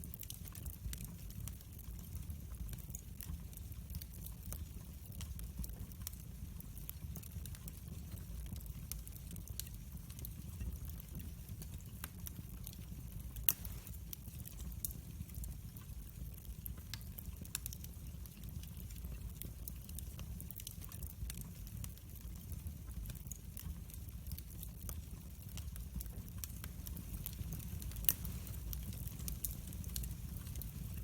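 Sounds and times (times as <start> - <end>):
fire crackling and popping: 0.0 - 31.0
fire low rumble: 0.0 - 31.0.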